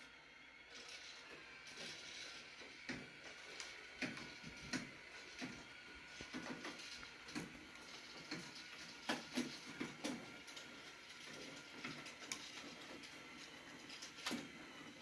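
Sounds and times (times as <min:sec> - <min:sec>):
curtain motor whine: 0:00.0 - 0:15.0.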